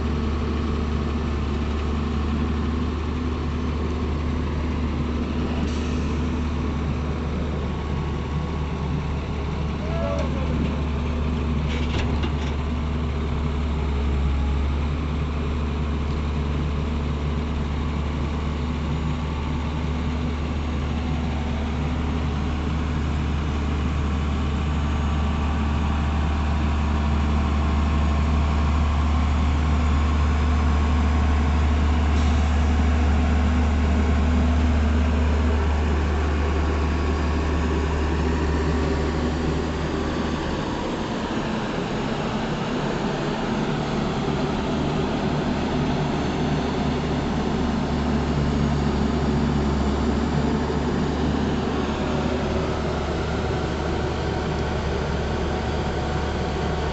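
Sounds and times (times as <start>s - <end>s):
heavy diesel engine humming: 0.0s - 56.9s.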